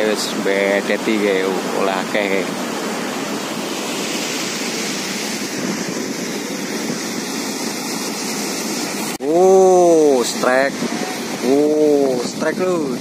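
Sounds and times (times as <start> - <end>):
turbulent water rushing: 0.0 - 13.0.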